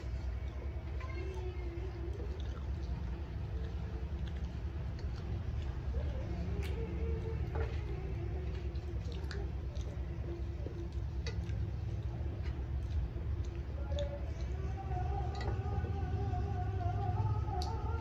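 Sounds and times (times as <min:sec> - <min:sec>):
steady low hum: 0:00.0 - 0:18.0
wet chewing: 0:00.0 - 0:18.0.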